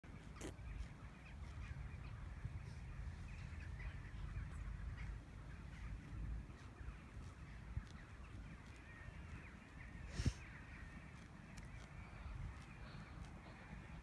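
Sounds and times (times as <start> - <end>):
bird calls: 0.1 - 14.0
wind buffeting microphone: 0.1 - 14.0.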